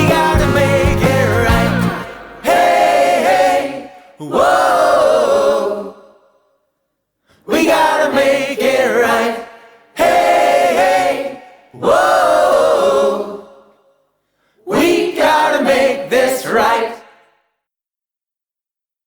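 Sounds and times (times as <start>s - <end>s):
group singing unaccompanied: 0.0s - 6.3s, 7.4s - 13.8s, 14.6s - 17.2s.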